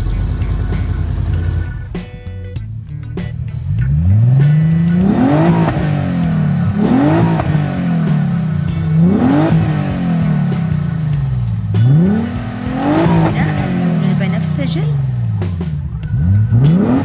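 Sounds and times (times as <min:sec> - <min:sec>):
low engine hum: 0:00.0 - 0:17.0
racing car engine revving: 0:03.1 - 0:17.0.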